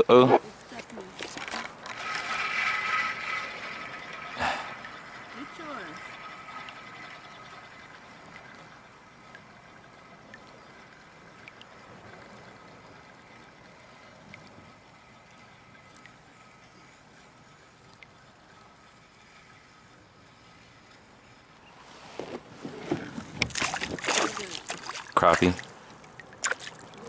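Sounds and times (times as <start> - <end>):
water trickling and lapping: 0.0 - 27.0.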